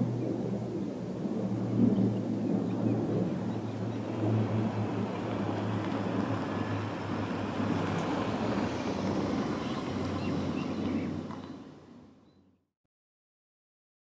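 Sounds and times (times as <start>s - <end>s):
turboprop engines droning: 0.0s - 12.2s.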